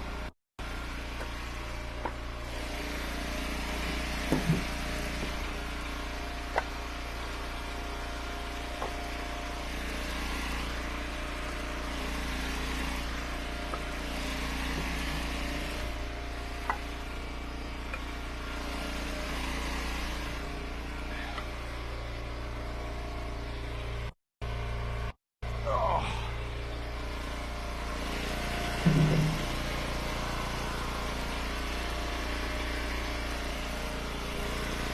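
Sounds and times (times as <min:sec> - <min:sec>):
wood splitter engine running: 0:00.0 - 0:34.9.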